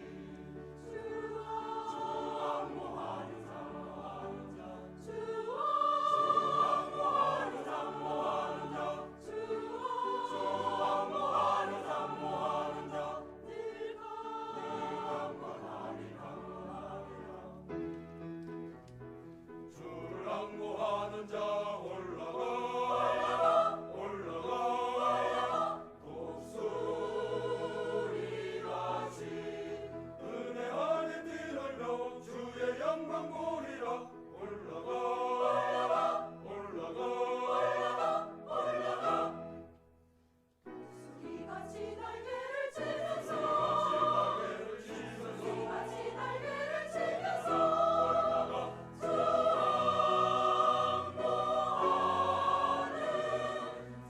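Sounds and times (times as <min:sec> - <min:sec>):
choir singing: 0:00.0 - 0:18.3, 0:19.5 - 0:39.8, 0:40.7 - 0:54.0.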